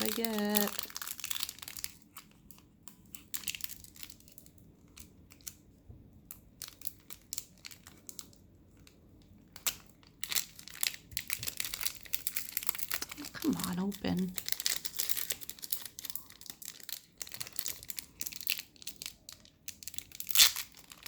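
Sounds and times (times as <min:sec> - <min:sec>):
foil wrapper crinkling and tearing: 0:00.0 - 0:05.6, 0:06.6 - 0:21.0.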